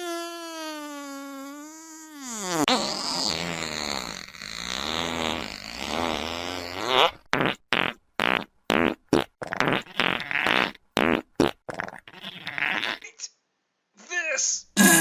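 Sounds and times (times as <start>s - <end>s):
long wavering fart: 0.0s - 13.0s
short fart bursts: 0.4s - 13.1s.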